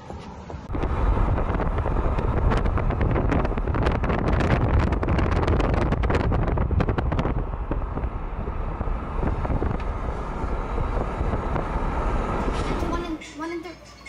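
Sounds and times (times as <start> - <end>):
car rumbling on road: 0.0 - 13.2
wind buffeting microphone: 0.1 - 13.2.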